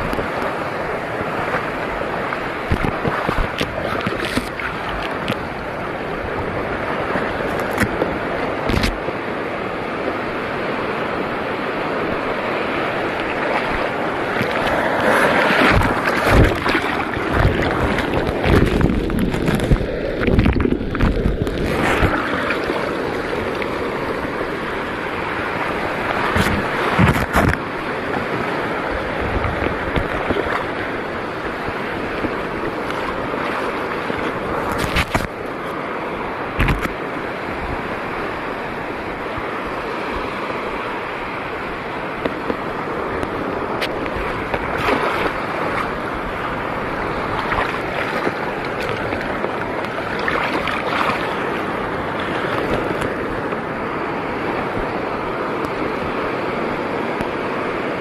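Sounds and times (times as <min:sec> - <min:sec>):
sea water rushing: 0:00.0 - 0:58.0
wind on microphone: 0:00.0 - 0:58.0.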